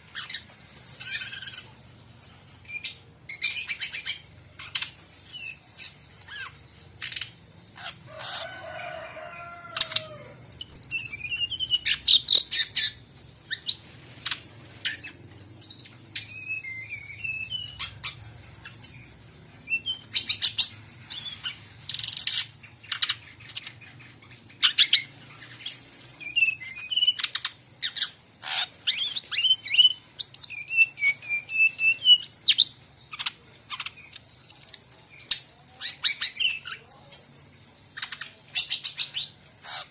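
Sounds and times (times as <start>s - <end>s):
other birds calling: 0.0s - 39.9s
steady high-pitched hiss: 0.0s - 39.9s.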